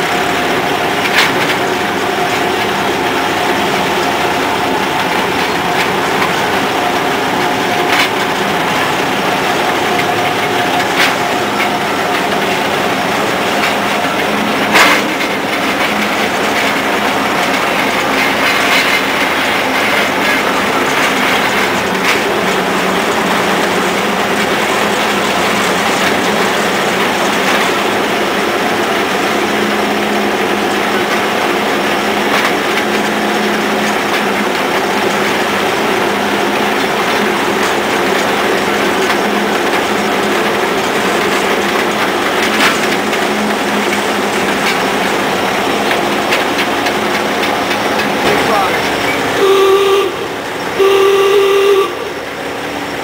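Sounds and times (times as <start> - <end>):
diesel engine running: 0.0 - 53.0
gear train mechanical clatter: 0.0 - 53.0.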